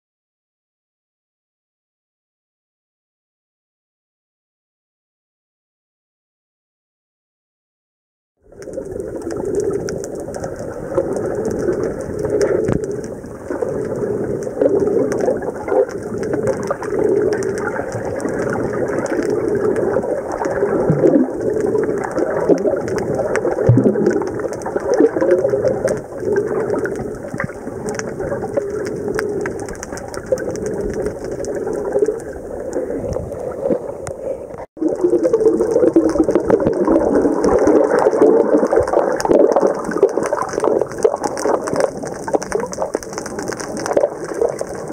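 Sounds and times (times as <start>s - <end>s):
underwater watery rush: 8.4s - 44.9s.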